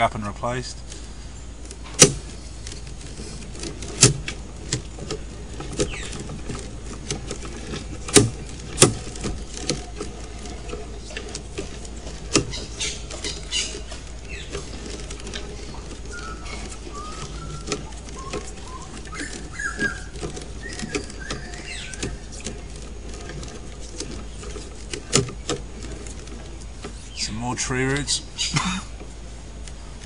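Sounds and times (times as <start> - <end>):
steady low hum: 0.0 - 30.0
sharp clicks and knocks: 1.6 - 28.1.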